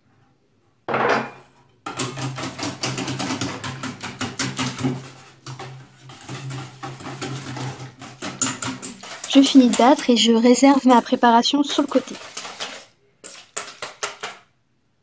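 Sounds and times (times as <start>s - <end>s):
whisk clicking in metal bowl: 1.9s - 14.5s.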